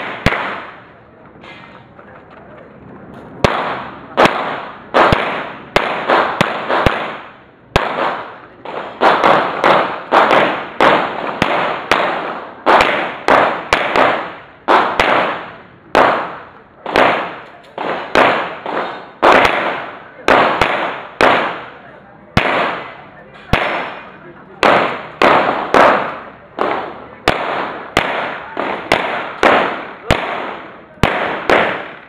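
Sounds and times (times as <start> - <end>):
pistol shots echoing: 0.0 - 0.9, 3.4 - 21.8, 22.4 - 32.0.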